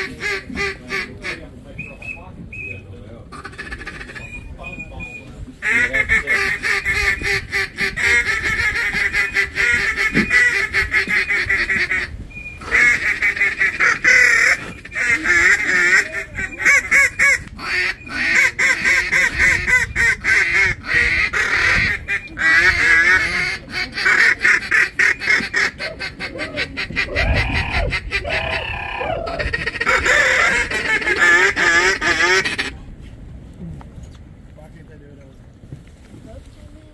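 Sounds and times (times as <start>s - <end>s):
ducks quacking: 0.0s - 32.8s
geese honking: 0.0s - 32.8s.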